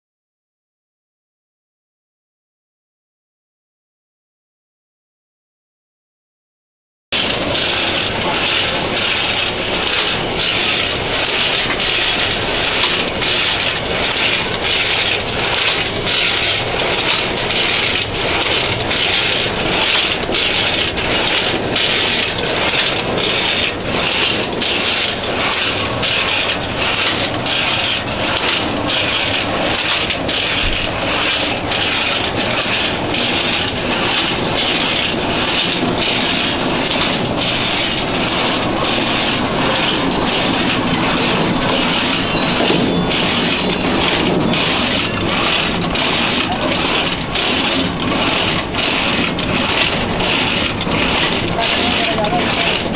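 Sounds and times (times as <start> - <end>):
cutting machine clattering: 7.2 - 52.9.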